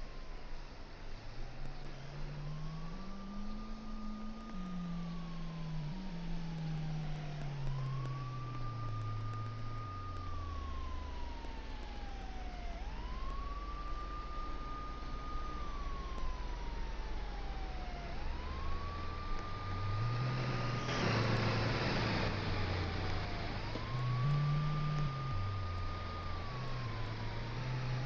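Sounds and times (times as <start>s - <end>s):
low drone dropping in pitch: 1.2s - 28.0s
siren wailing: 1.5s - 28.0s.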